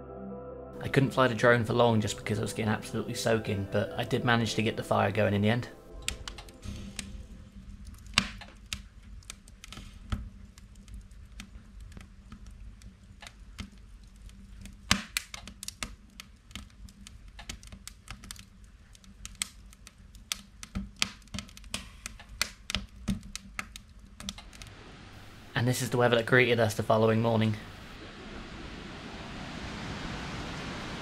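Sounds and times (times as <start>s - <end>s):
wood fire crackling: 0.8s - 31.0s.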